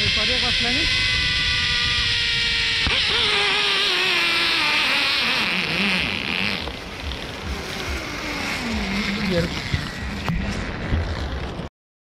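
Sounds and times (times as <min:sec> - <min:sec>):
zipline pulleys whirring: 0:00.0 - 0:11.7.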